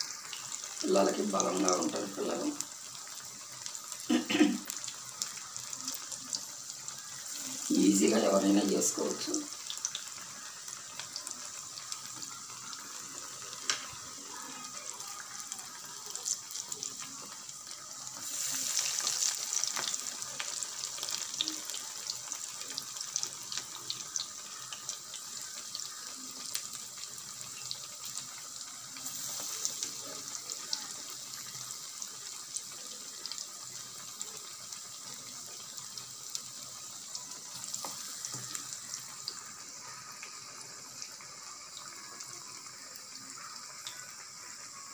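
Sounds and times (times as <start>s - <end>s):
food deep-frying in hot oil: 0.0s - 44.9s.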